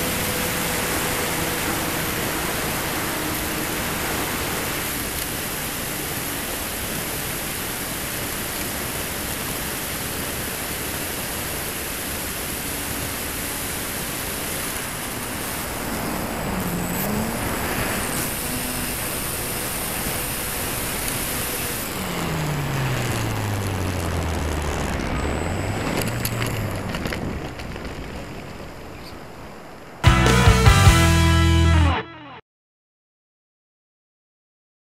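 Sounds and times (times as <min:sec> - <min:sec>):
model plane motor and propeller: 0:00.0 - 0:29.0.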